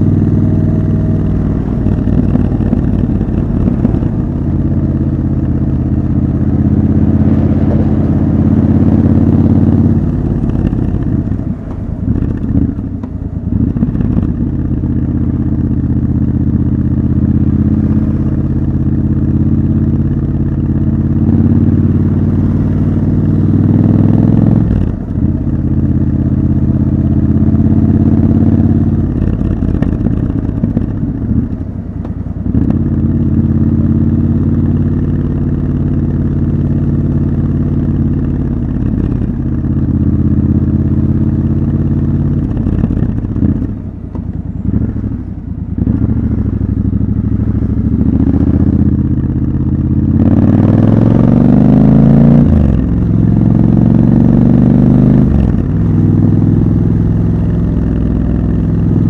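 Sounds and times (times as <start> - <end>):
city traffic: 0.0 - 59.0
motorcycle engine running: 0.0 - 59.0.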